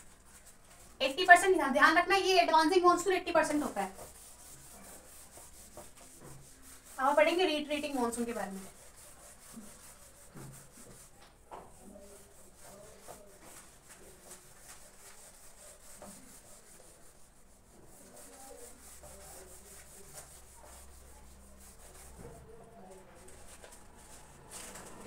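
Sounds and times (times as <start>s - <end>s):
eraser rubbing on whiteboard: 0.0s - 22.6s.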